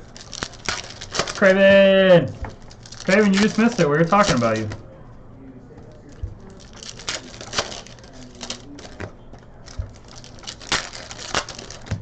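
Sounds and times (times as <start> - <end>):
foil wrapper crinkling: 0.0 - 4.8, 5.9 - 12.0
cards clicking: 0.2 - 4.8, 6.0 - 12.0.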